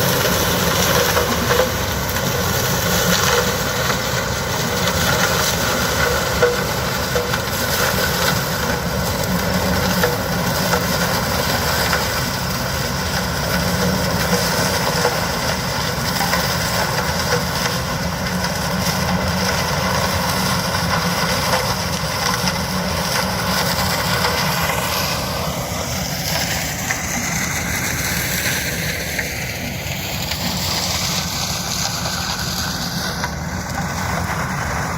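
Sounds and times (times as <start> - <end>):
harvester engine droning: 0.0 - 34.9.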